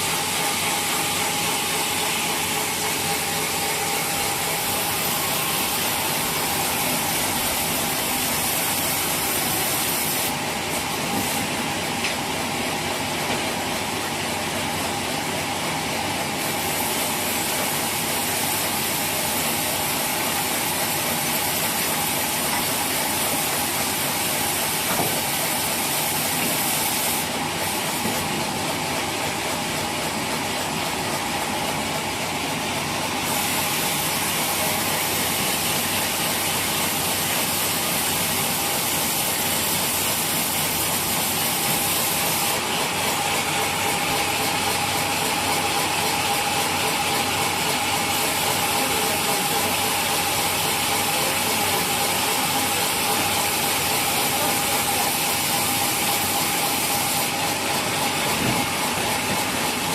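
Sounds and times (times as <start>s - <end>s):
saw cutting through log: 0.0s - 11.9s, 15.8s - 30.4s, 33.2s - 59.9s.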